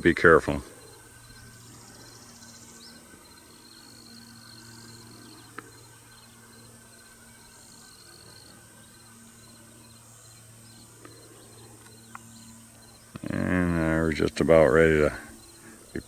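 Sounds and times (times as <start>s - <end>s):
insects chirping: 0.0s - 16.0s
steady low hum: 0.0s - 16.0s.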